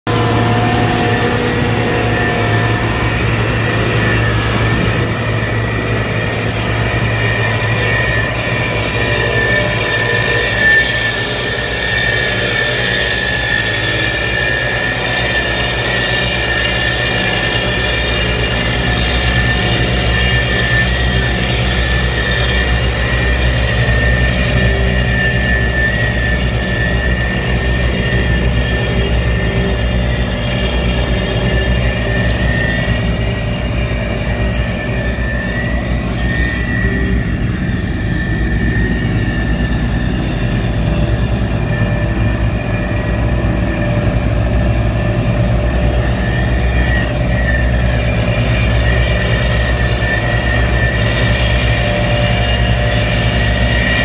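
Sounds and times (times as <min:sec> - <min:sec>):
road roller engine drone: 0:00.0 - 0:54.0.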